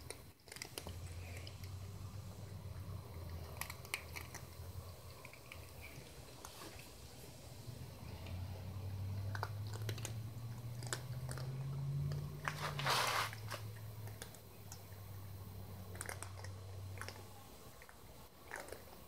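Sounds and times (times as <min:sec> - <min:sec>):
cats crunching dry kibble: 0:00.0 - 0:19.0
low steady hum: 0:00.0 - 0:19.0.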